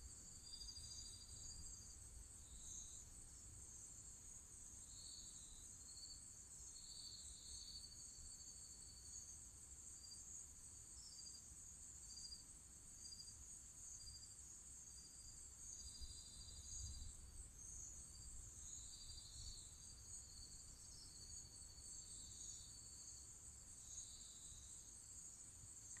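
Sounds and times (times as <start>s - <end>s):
cricket trills: 0.0s - 26.0s.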